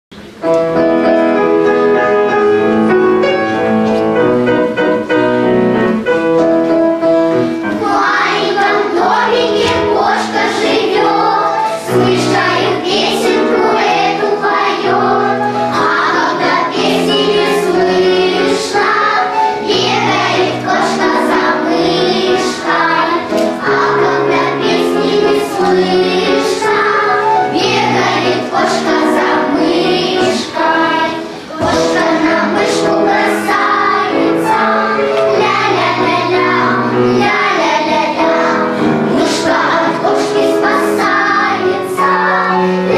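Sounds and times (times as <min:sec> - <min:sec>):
piano: 0:00.1 - 0:42.9
children's choir singing: 0:00.4 - 0:42.9.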